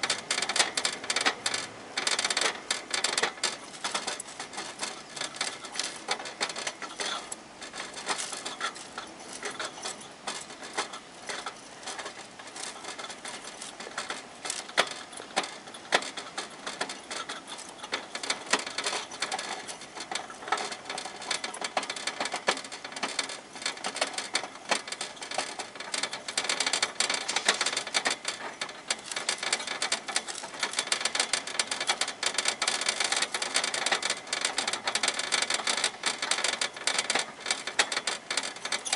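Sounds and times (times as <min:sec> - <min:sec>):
hamster gnawing on metal cage bars: 0:00.0 - 0:38.9.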